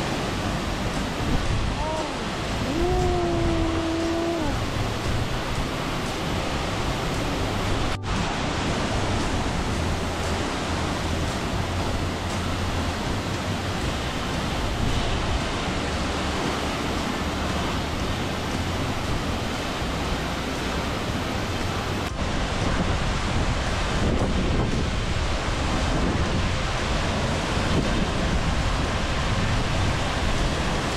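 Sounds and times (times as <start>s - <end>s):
waterfall crashing onto rocks: 0.0s - 30.9s.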